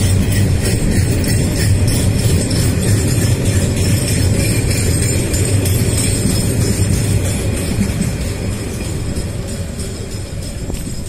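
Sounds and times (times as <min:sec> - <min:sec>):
train wheels rumbling on rails: 0:00.0 - 0:11.0
wagons rattling and jingling: 0:00.0 - 0:11.0.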